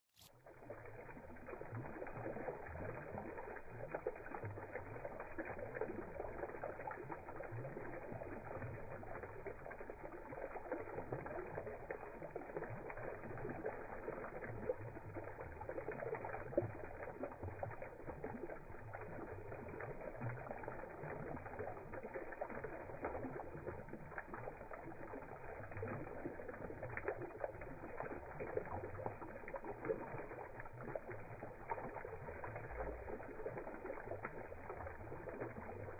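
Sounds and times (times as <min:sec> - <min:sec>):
fountain water splashing: 0:00.1 - 0:35.9.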